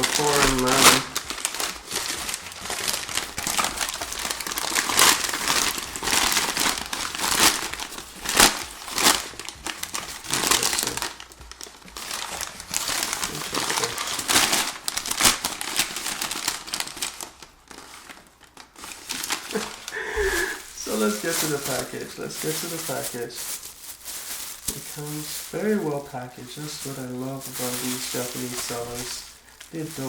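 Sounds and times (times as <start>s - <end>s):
newspaper crumpling and rustling: 0.0s - 30.0s.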